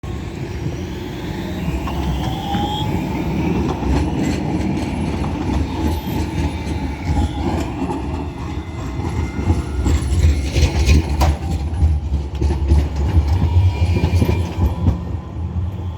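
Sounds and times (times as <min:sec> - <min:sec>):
faint gliding whines: 0:00.0 - 0:15.9
tram rumbling: 0:00.0 - 0:15.9.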